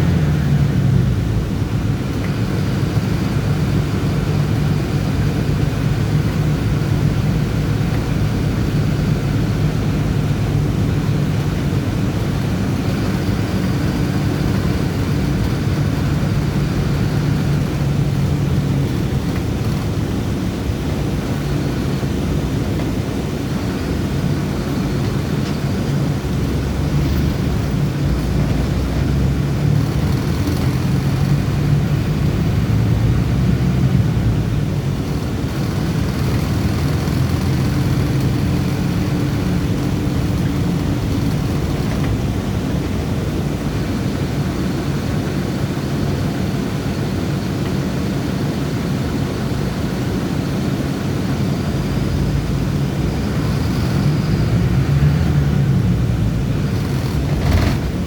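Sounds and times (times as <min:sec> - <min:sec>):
bus engine running: 0:00.0 - 0:58.0
road noise: 0:00.0 - 0:58.0.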